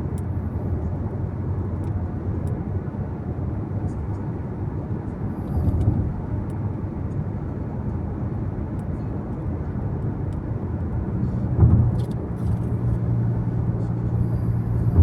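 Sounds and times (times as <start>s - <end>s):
car driving interior rumble: 0.0s - 15.0s.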